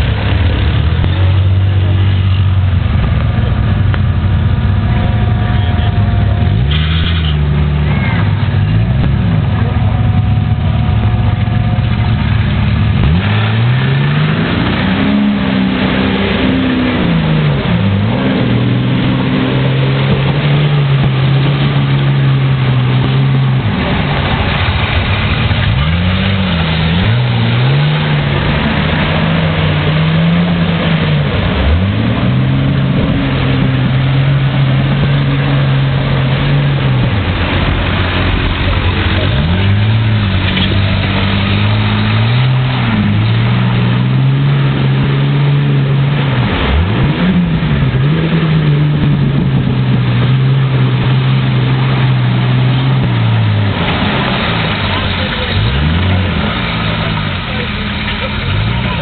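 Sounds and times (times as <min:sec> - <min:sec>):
engine revving under load: 0:05.0 - 0:59.0.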